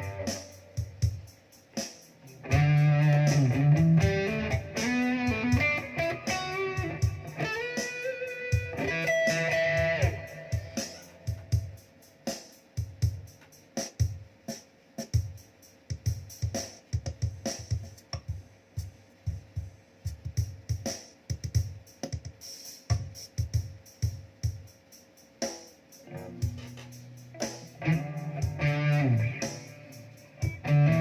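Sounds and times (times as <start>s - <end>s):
drum machine beat: 0.0s - 31.0s.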